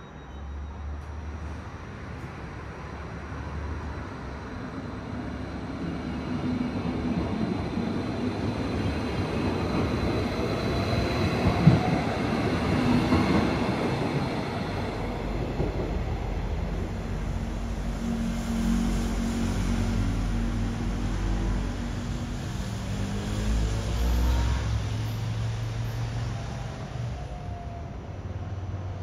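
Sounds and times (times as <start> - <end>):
train rumbling by: 0.0 - 29.0.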